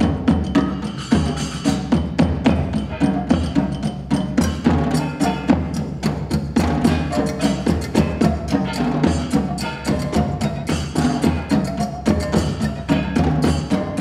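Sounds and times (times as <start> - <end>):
pitched notes: 0.0 - 14.0
rapid percussion music: 0.0 - 14.0.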